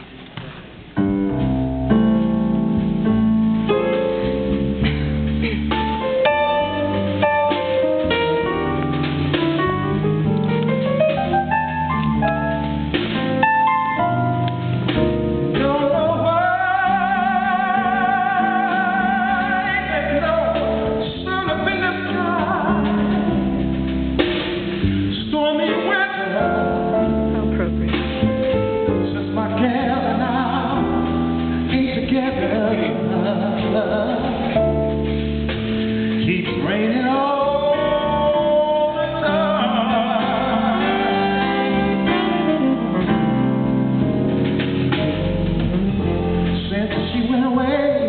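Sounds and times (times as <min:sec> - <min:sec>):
live band music: 0:00.0 - 0:48.0.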